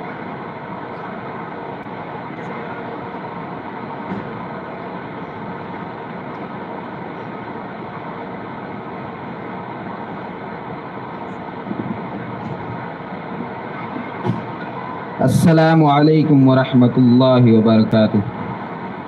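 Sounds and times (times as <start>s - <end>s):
noisy background hum: 0.0s - 19.0s.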